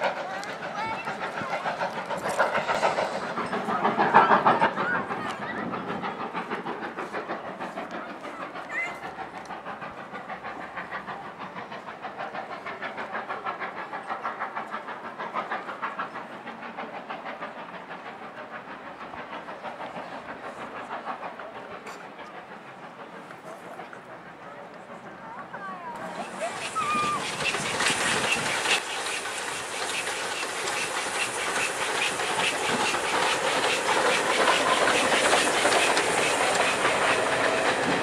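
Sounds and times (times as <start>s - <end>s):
train wheels clattering over rails: 0.0s - 38.0s.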